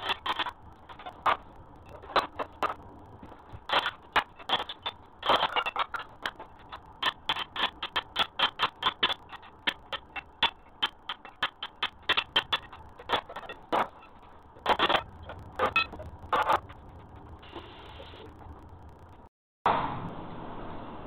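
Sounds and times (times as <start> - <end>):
rapid sharp taps: 0.0 - 19.3.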